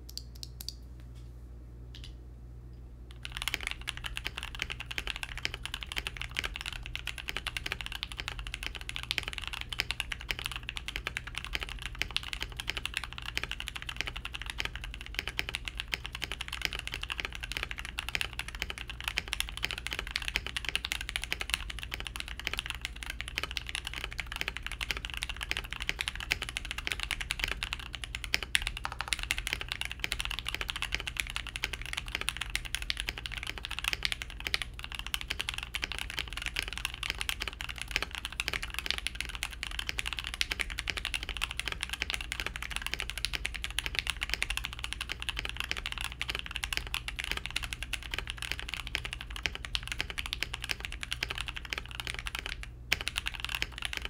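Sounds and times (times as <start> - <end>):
steady low hum: 0.0 - 54.0
mechanical keyboard typing: 3.1 - 54.0.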